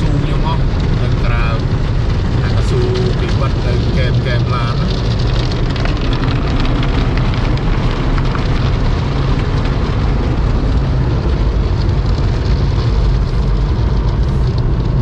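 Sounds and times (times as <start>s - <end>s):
automatic car wash rushing: 0.0s - 15.0s
deep rumble: 0.0s - 15.0s.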